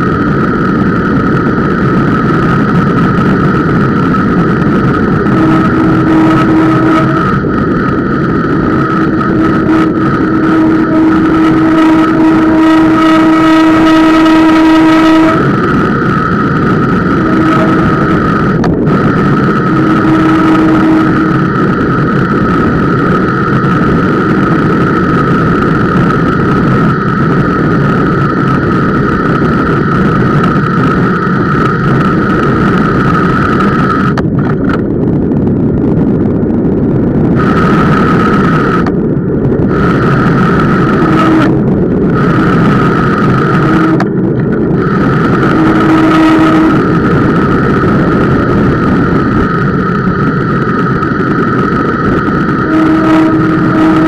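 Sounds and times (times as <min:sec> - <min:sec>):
brake pads rushing: 0:00.0 - 0:54.0.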